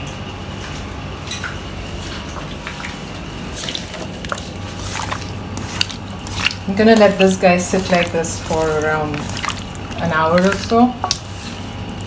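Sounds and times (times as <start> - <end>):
steady low hum: 0.0 - 12.0
wet squelches of mixing meat: 1.8 - 12.0.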